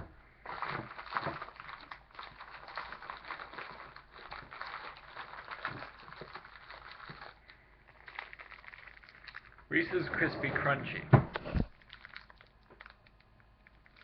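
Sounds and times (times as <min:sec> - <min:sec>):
plastic wrapper crinkling: 0:00.4 - 0:10.0, 0:11.4 - 0:14.0.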